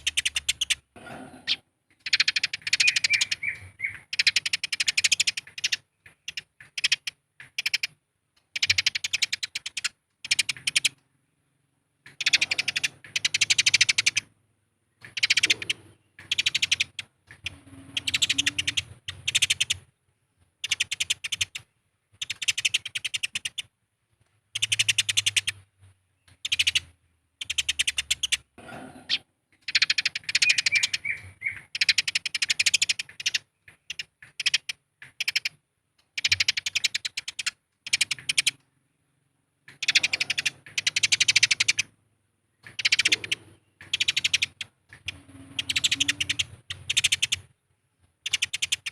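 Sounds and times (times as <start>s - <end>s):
sparrows chirping: 0.0s - 23.8s, 24.5s - 48.9s.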